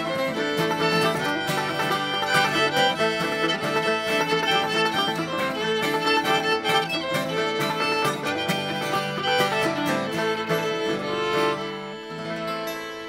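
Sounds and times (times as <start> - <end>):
bowed fiddle: 0.0 - 13.0
plucked banjo: 0.0 - 13.0
strummed acoustic guitar: 0.0 - 13.0.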